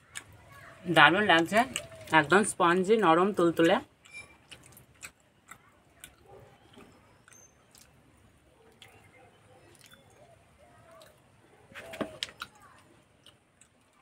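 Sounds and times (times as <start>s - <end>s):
faint chewing: 0.0s - 2.5s, 3.6s - 14.0s.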